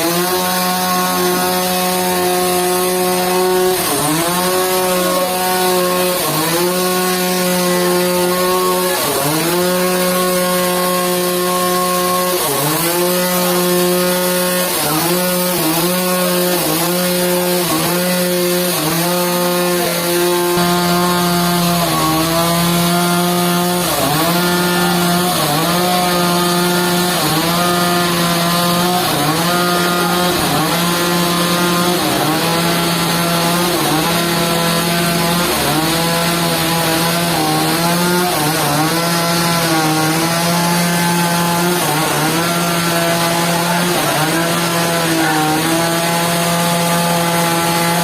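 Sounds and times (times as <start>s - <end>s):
saw cutting wood hiss: 0.0s - 48.0s
sawmill motor hum: 0.0s - 48.0s.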